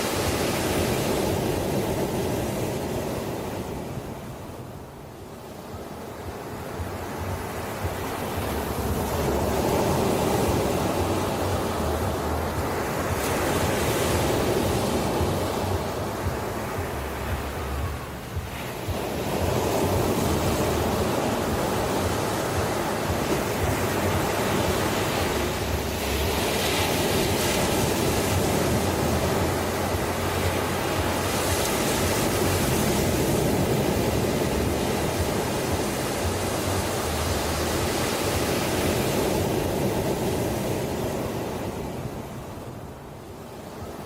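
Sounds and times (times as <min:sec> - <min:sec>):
ocean waves washing ashore: 0:00.0 - 0:44.0.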